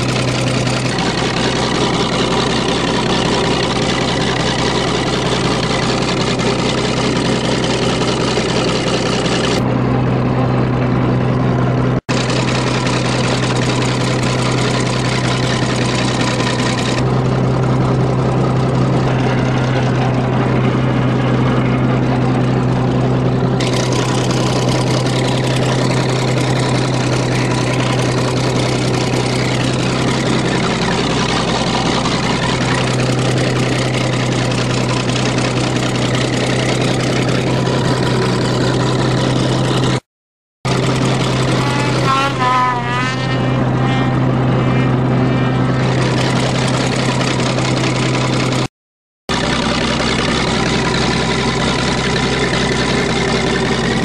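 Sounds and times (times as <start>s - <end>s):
bulldozer engine humming: 0.0s - 40.0s, 40.7s - 48.7s, 49.3s - 54.0s.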